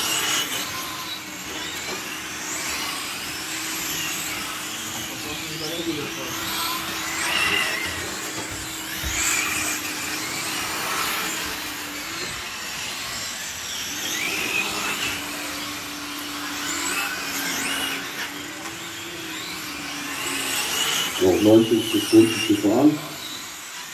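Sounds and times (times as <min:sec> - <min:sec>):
electric motors whining: 0:00.0 - 0:23.9.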